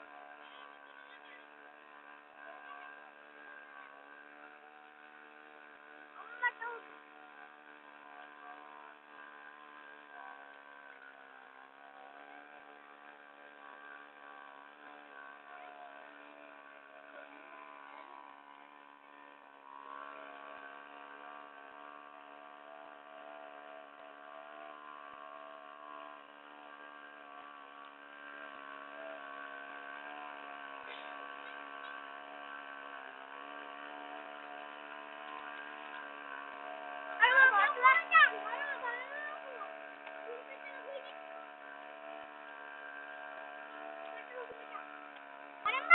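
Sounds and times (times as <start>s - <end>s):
small boat engine droning: 0.0s - 45.9s.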